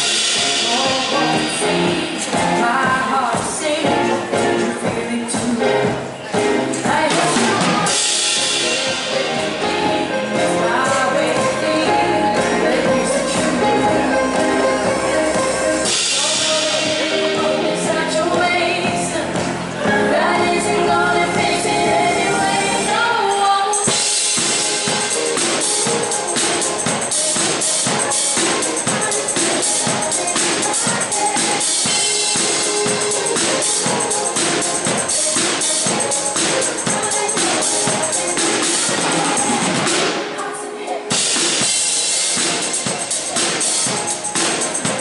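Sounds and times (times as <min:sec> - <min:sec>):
driving drum beat: 0:00.0 - 0:40.5, 0:41.1 - 0:45.0
live pop band playing: 0:00.0 - 0:45.0
woman singing: 0:00.0 - 0:45.0.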